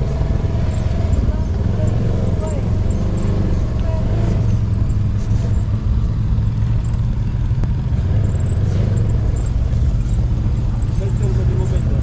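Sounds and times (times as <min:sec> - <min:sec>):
buggy engines rumbling: 0:00.0 - 0:12.0.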